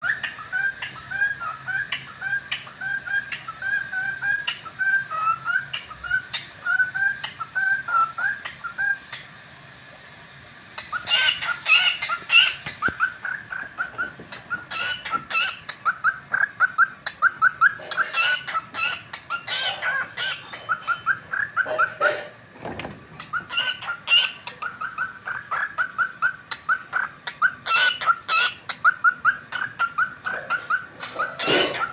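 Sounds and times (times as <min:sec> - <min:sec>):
cockatiel chirping: 0:00.0 - 0:09.2, 0:10.8 - 0:22.1, 0:23.2 - 0:31.9.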